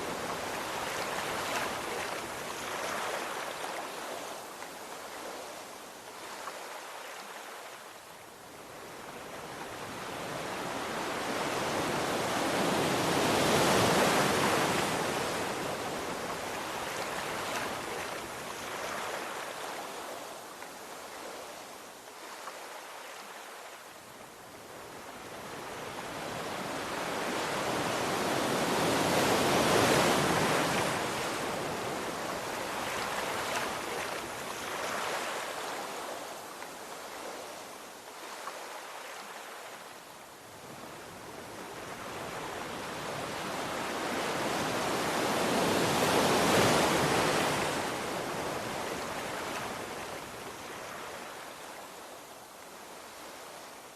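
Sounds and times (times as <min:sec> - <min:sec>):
sea waves breaking on shore: 0:00.0 - 0:08.0, 0:08.6 - 0:53.9.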